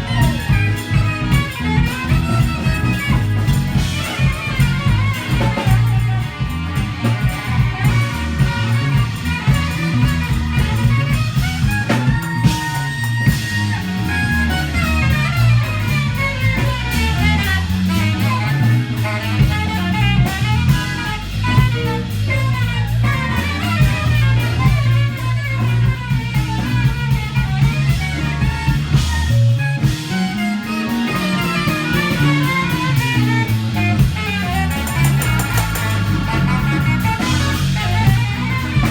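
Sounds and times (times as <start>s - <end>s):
busy bass line: 0.0s - 38.9s
drum kit: 0.0s - 38.9s
electric guitar lines: 0.0s - 38.9s.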